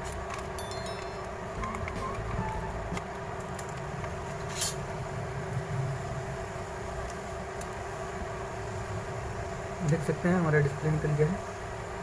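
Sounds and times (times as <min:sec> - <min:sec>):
mechanical hum with drone: 0:00.0 - 0:12.0.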